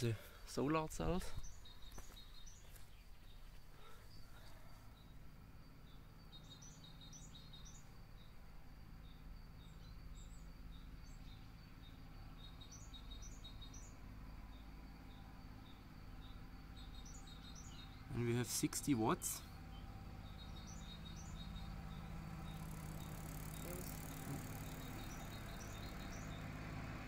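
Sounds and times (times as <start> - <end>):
low steady rumble: 0.0 - 27.0
small birds chirping: 0.0 - 27.0.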